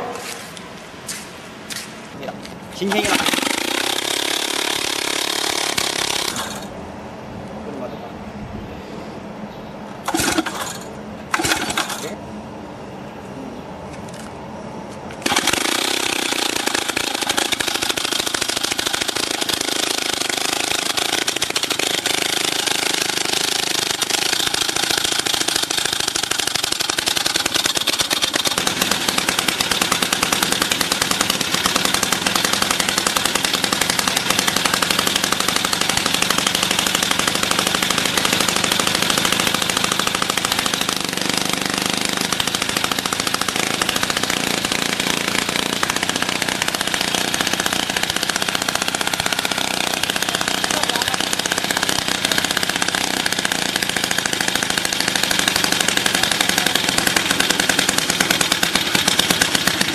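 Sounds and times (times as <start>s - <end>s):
rock drill hammering: 2.9s - 6.7s, 15.2s - 59.9s.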